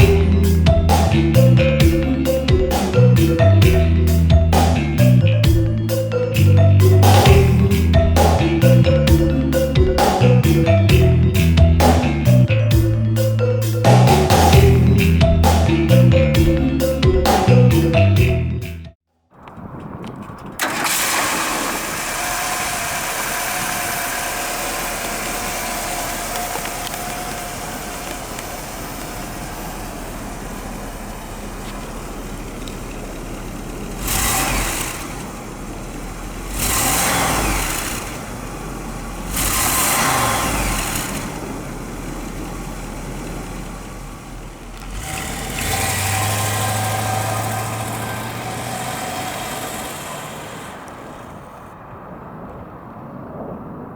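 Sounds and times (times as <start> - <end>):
engine revving: 0.0 - 18.9, 20.6 - 51.8
car engine starting and idling: 0.0 - 52.6.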